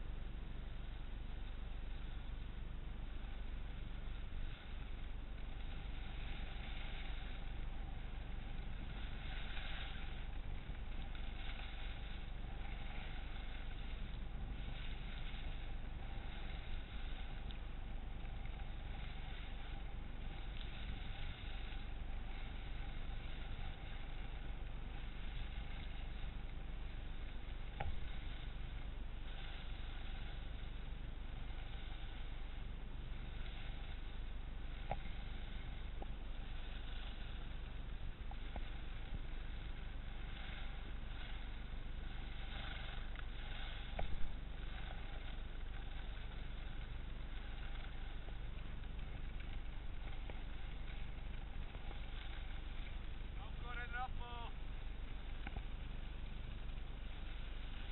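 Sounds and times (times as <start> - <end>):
skis scraping on snow: 0.0 - 57.9.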